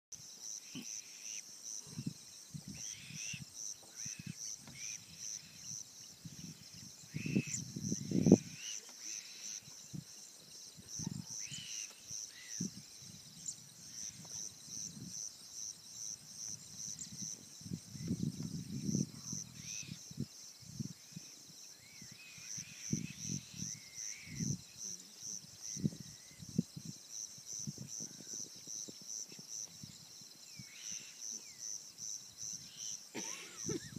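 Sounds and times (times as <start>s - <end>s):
insects trilling: 0.2s - 33.9s.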